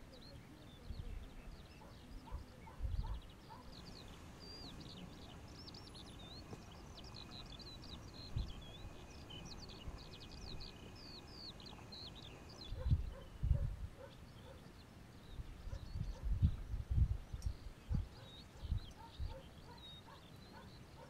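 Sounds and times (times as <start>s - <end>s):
birds chirping and whistling: 0.2s - 21.0s.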